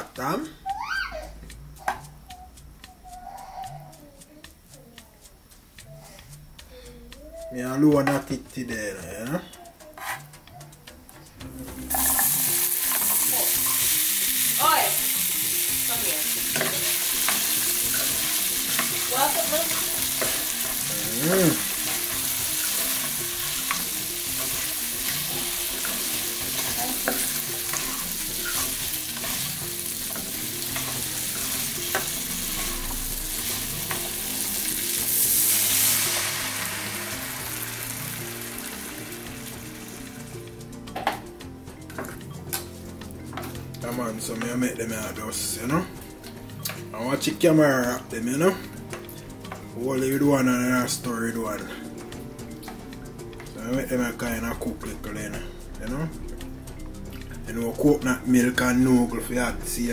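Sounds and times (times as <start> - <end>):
vegetables sizzling in butter: 0.0 - 59.9
spatula stirring: 1.2 - 59.9.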